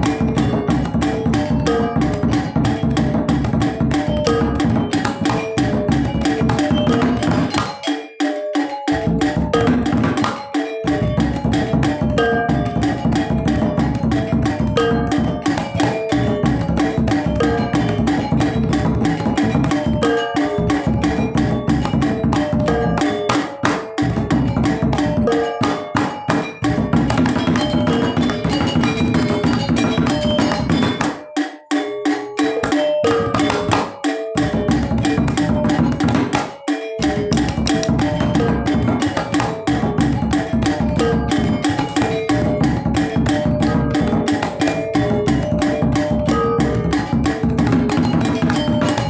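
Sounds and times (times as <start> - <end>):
gamelan music: 0.0 - 49.0.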